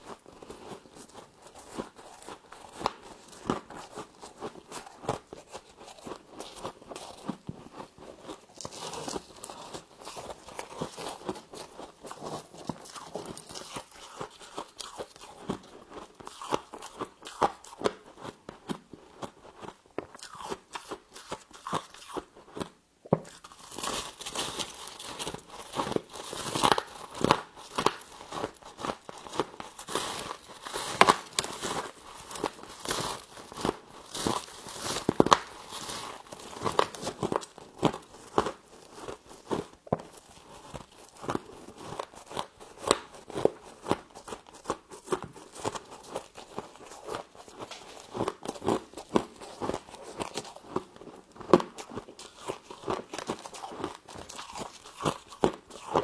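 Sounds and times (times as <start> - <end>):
biting and chewing crisp frost: 0.0 - 56.0.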